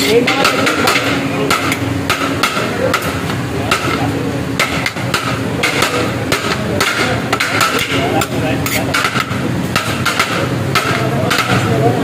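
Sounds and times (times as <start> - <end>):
steady low hum: 0.0 - 12.0
metal spoon knocking on cookware: 0.1 - 11.8.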